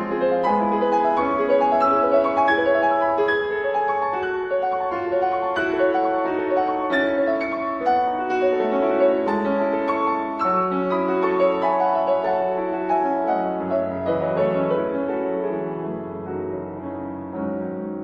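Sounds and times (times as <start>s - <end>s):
calm piano music: 0.0s - 18.0s.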